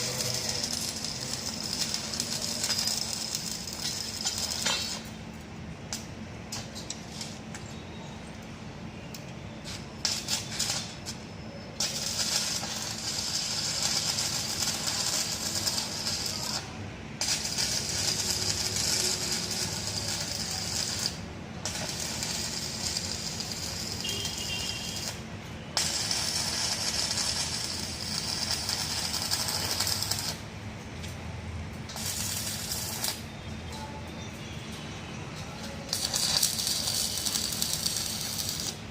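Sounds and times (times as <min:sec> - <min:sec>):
arc welding crackling: 0:00.0 - 0:38.9.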